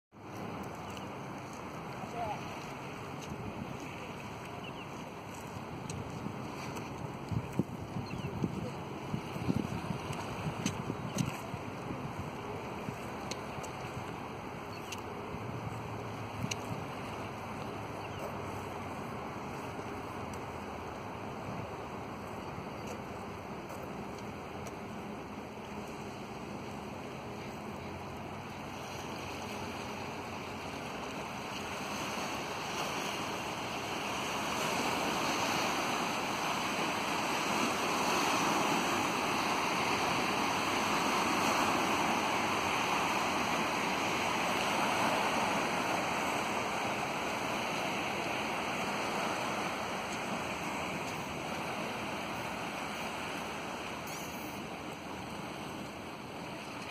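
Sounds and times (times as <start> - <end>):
waves washing on stony shore: 0.2 - 56.9.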